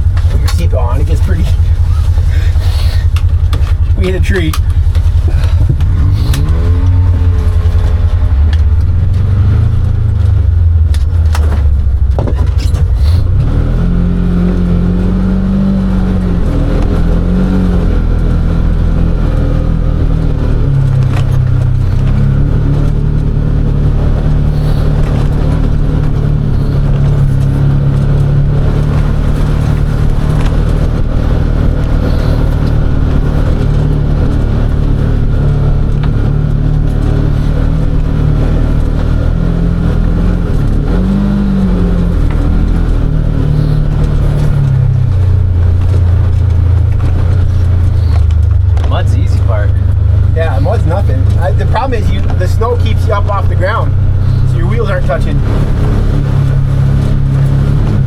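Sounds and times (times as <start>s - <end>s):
utility vehicle engine revving: 0.0s - 58.0s.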